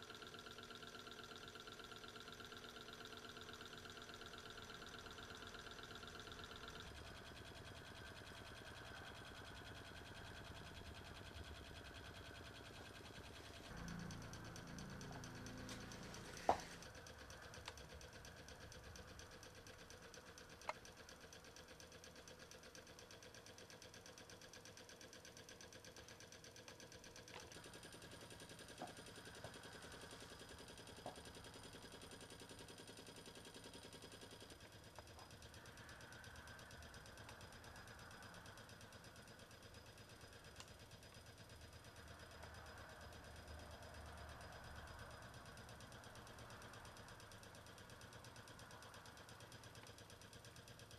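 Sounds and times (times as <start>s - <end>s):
hot-air engine mechanical patter: 0.0s - 50.9s.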